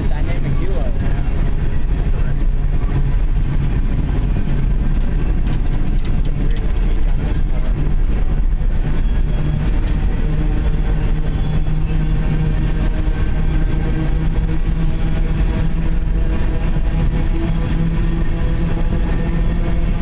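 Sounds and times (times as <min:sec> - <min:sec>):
train cars rolling on rails: 0:00.0 - 0:20.0.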